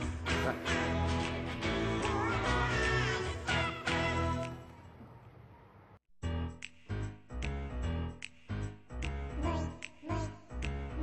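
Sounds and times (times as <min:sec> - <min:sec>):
background music with steady beat: 0:00.0 - 0:04.9, 0:06.2 - 0:11.0.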